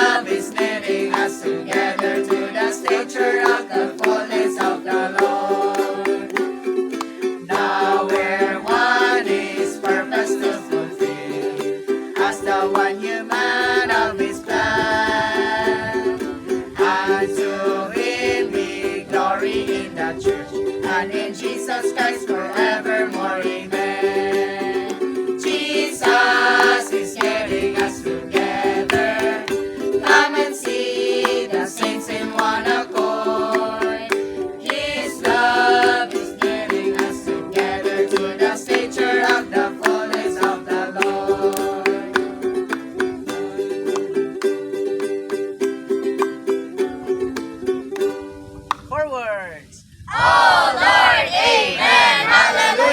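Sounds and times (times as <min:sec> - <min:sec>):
hymn with plucked strings: 0:00.0 - 0:48.4.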